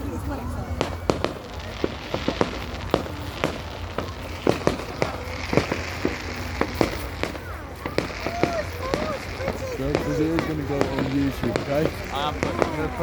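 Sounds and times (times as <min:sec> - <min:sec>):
fireworks crackling hiss: 0:00.0 - 0:13.0
fireworks bangs and pops: 0:00.6 - 0:13.0.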